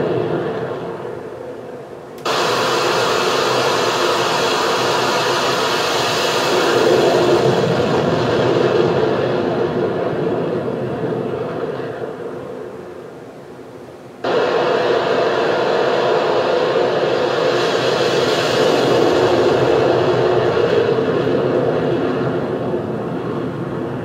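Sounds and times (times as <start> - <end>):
jet engines at full power: 0.0 - 24.0.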